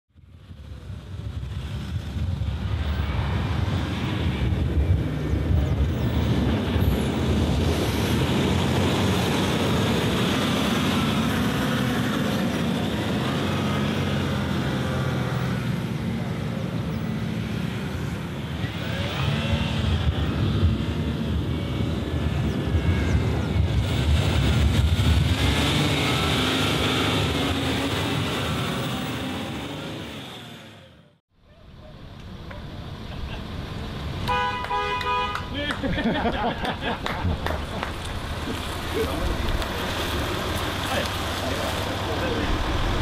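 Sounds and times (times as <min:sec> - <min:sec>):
off-road engines under load: 0:00.2 - 0:43.0.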